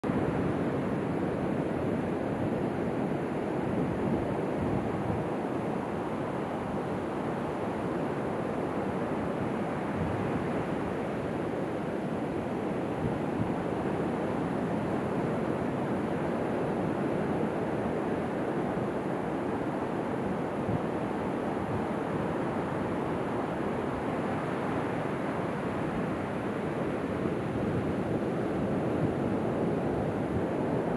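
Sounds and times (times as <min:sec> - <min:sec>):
ocean waves on beach: 0:00.1 - 0:30.9.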